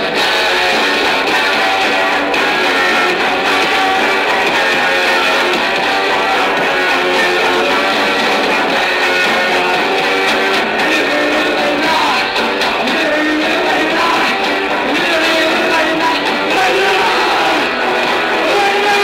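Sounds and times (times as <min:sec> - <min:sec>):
distorted electric guitars strumming: 0:00.0 - 0:19.0
punk rock band playing live: 0:00.0 - 0:19.0.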